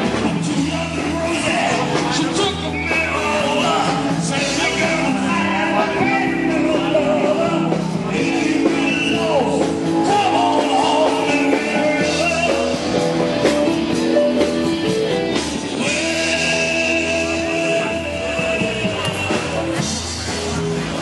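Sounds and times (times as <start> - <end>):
rock and roll song with singing: 0.0 - 21.0.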